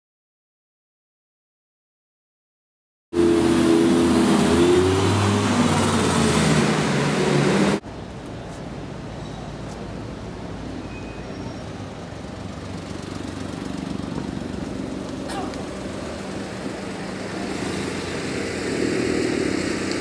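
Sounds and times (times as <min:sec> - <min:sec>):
street traffic noise: 0:03.2 - 0:20.0.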